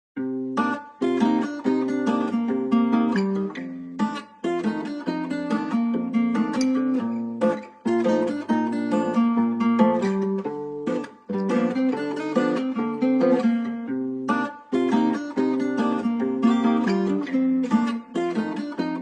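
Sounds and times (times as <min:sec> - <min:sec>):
strummed acoustic guitar: 0:00.2 - 0:19.0.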